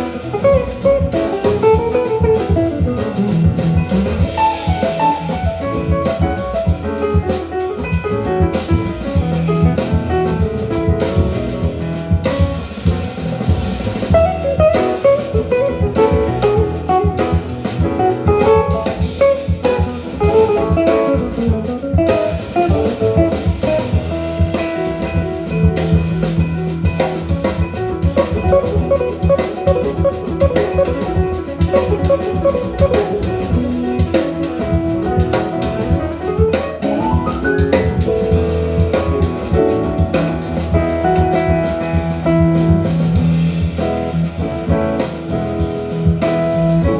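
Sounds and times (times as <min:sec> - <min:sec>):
small-group jazz over loudspeakers: 0:00.0 - 0:46.9.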